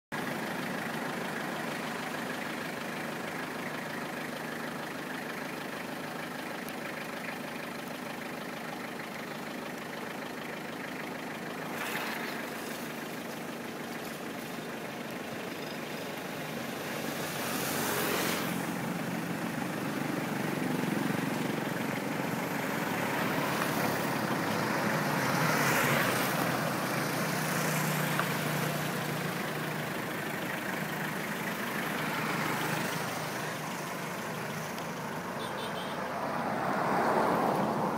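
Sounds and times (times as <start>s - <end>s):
road traffic noise: 0.0s - 37.9s
vehicles passing: 0.1s - 37.9s.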